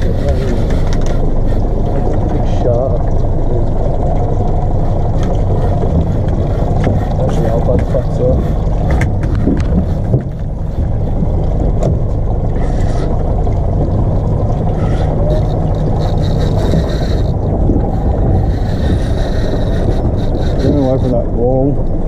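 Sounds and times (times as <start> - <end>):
outboard motor rumbling: 0.0 - 22.0.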